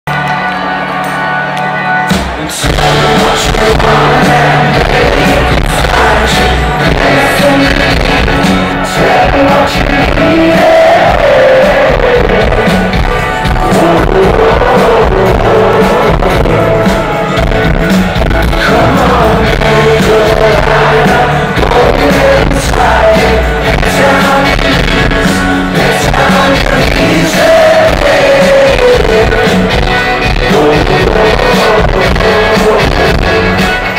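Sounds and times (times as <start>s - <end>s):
live rock band with singer: 0.1s - 33.9s.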